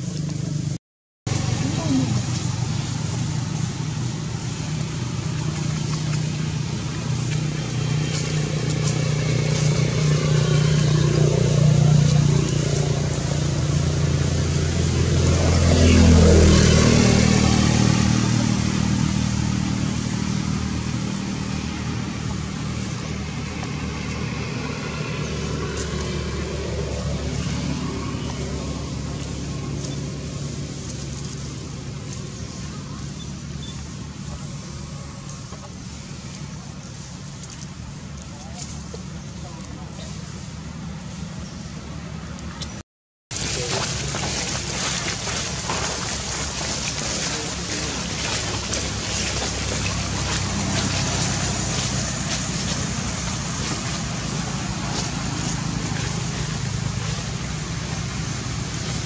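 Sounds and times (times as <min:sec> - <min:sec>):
vehicle driving past: 0:01.3 - 0:35.3, 0:43.4 - 0:59.0.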